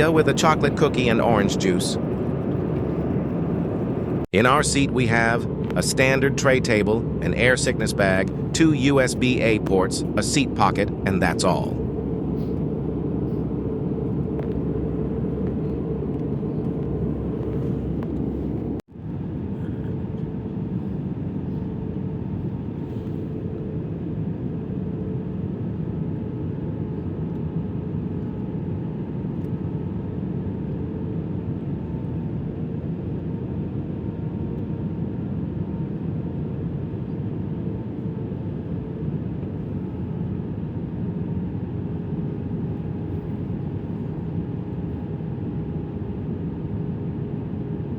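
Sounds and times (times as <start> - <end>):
airplane cabin engine roar: 0.0 - 47.9
faint steady hum: 0.0 - 47.9.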